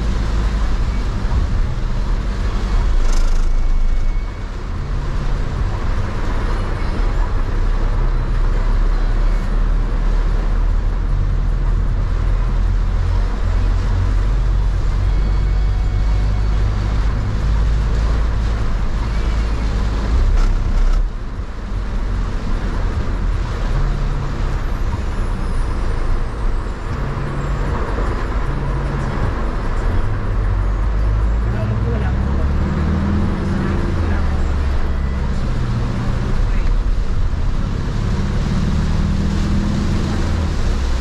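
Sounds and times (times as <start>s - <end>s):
engine and road rumble: 0.0s - 41.0s
rain and tyre spray hiss: 0.0s - 41.0s.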